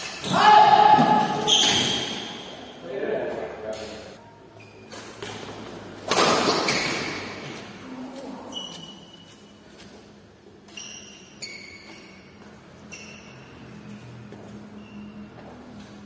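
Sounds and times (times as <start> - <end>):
shoes squeaking on floor: 0.0 - 2.6, 4.5 - 5.6, 6.7 - 16.0.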